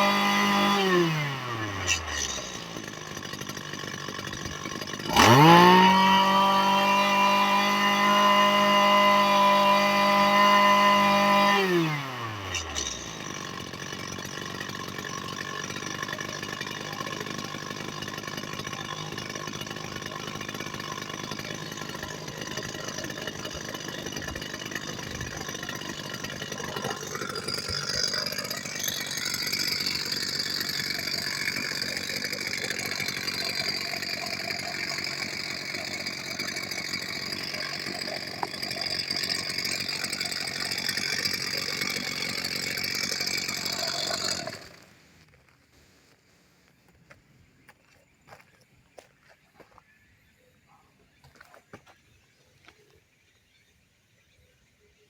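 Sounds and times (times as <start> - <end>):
brush cutter engine revving: 0.0 - 45.3.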